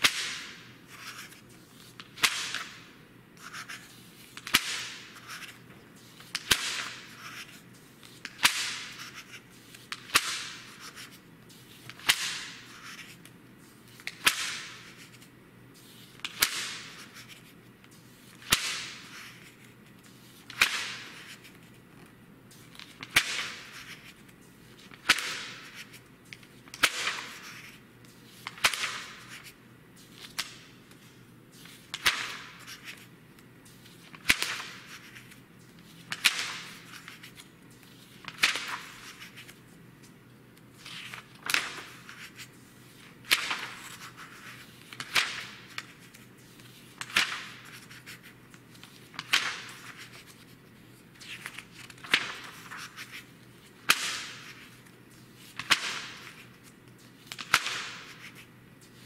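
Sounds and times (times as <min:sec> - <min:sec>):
magazine pages turning: 0:00.9 - 0:02.7, 0:03.4 - 0:21.8, 0:22.5 - 0:59.0.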